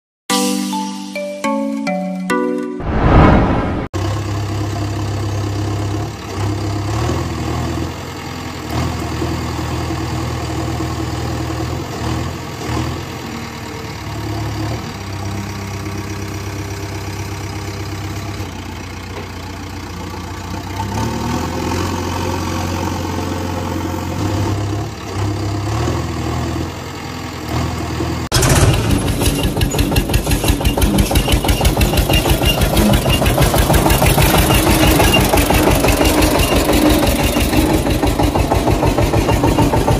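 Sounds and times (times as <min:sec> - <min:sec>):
tractor engine chugging: 0:04.8 - 0:25.5, 0:28.3 - 0:39.9.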